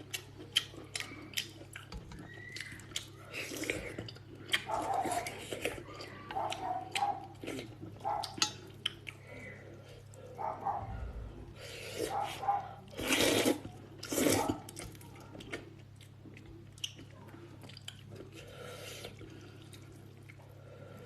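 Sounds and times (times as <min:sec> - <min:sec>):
person slurping and chewing noodles: 0:00.0 - 0:21.0
steady low hum: 0:03.0 - 0:21.0.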